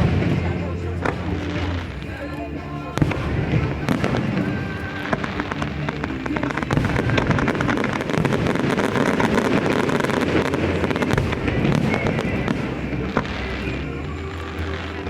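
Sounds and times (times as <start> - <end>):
faint music: 0.0 - 15.0
fireworks booms: 0.0 - 15.0
fireworks crackling pops: 0.0 - 15.0.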